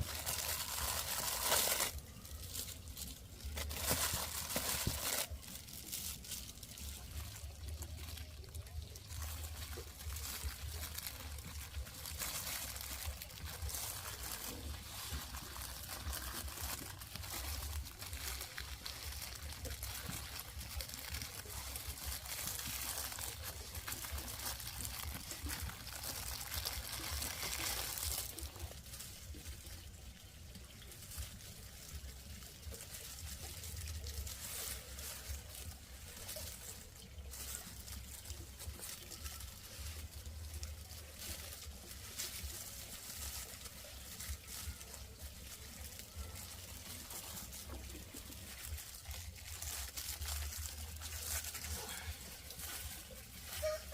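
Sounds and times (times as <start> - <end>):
water trickling: 1.9 - 53.6.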